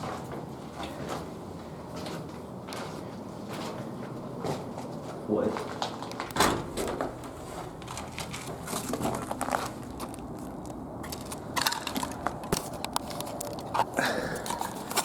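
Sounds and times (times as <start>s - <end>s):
footsteps crunching over debris: 0.0s - 13.8s.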